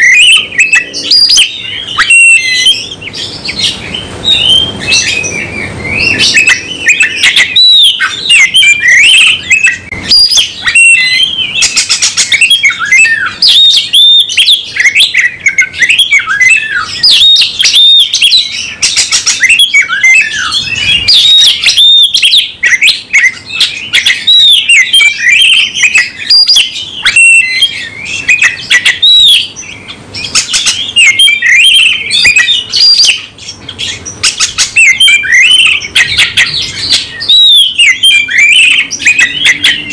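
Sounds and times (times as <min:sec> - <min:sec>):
bird singing rapid whistles and trills: 0:00.0 - 0:39.9.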